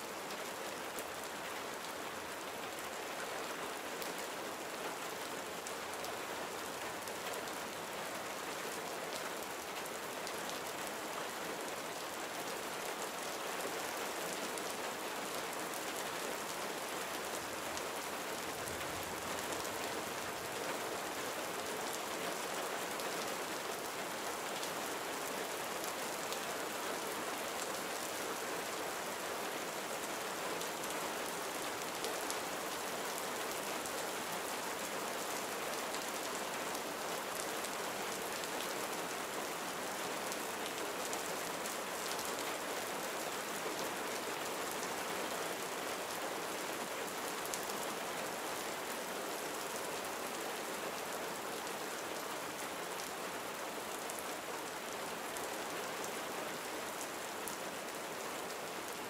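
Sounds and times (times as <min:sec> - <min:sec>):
gentle steady rain: 0:00.0 - 0:59.0.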